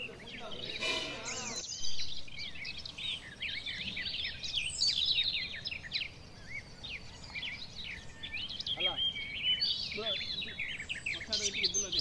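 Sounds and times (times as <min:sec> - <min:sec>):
flock of small birds chirping: 0:00.0 - 0:12.0.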